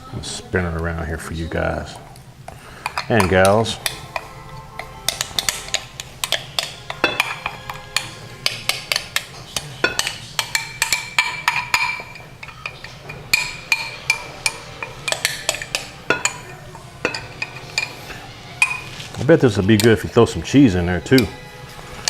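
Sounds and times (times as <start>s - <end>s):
utensil clinking in mixing bowl: 2.5s - 22.0s.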